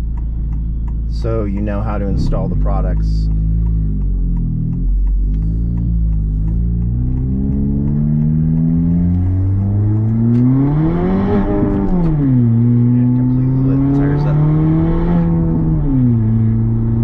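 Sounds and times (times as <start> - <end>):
car engine revving under load: 0.0 - 17.0.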